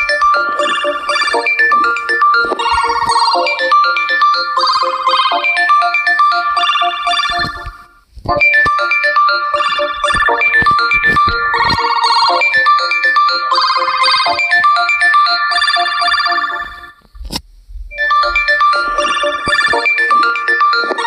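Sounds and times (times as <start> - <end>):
electronic ringtone melody: 0.0 - 17.0, 17.9 - 21.0.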